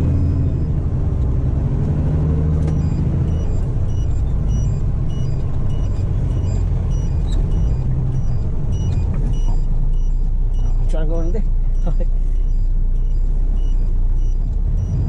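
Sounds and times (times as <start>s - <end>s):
diesel truck engine rumbling: 0.0s - 15.0s
faint high beeps: 2.6s - 15.0s.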